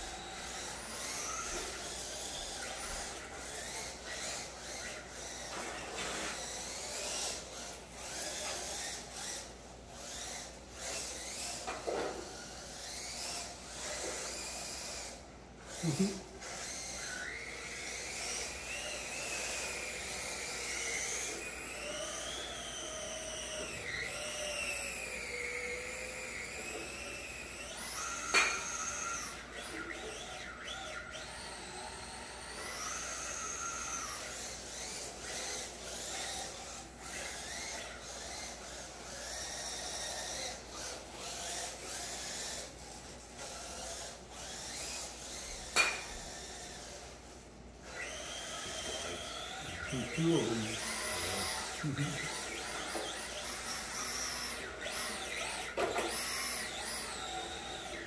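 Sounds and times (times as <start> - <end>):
rc car motor whine: 0.0 - 58.0.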